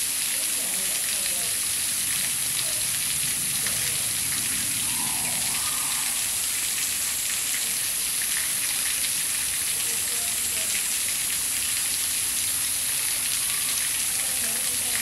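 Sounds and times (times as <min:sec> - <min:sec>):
running water hissing: 0:00.0 - 0:15.0.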